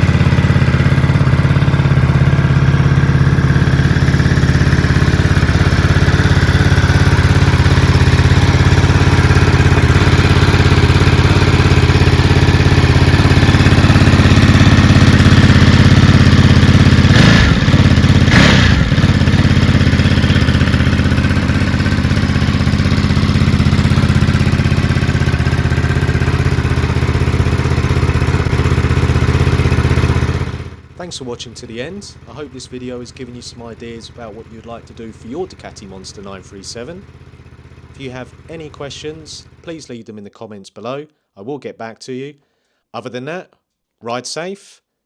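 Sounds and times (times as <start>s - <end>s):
motorcycle engine idling: 0.0s - 39.7s.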